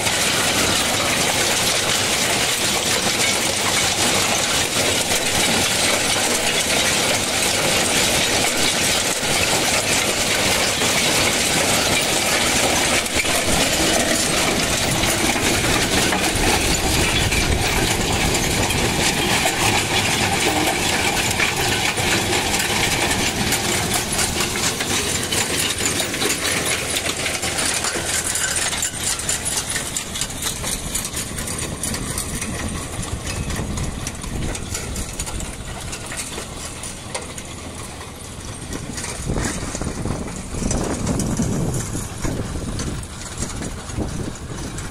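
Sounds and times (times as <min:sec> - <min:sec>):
stones rattling on steel sieve: 0:00.0 - 0:44.9
tractor engine running: 0:00.0 - 0:44.9.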